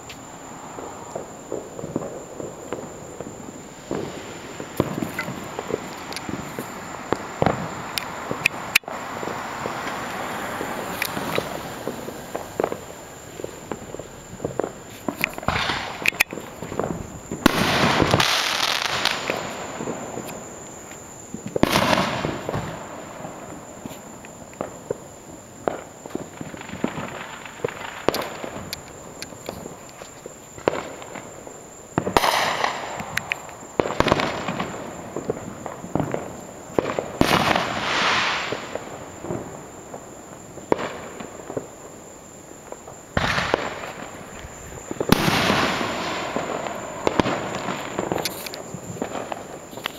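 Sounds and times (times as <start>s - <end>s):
firecrackers popping and crackling: 0.0s - 49.9s
fireworks bangs: 0.0s - 49.9s.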